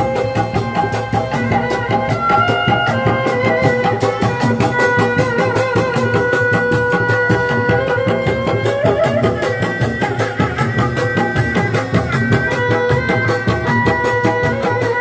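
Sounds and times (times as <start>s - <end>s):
hand drums beating: 0.0s - 15.0s
pitched instrument holding long notes: 0.0s - 15.0s.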